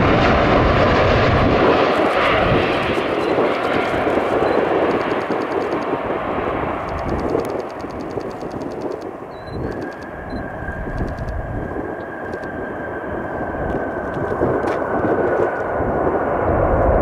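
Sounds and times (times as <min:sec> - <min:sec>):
jet engine rush: 0:00.0 - 0:17.0.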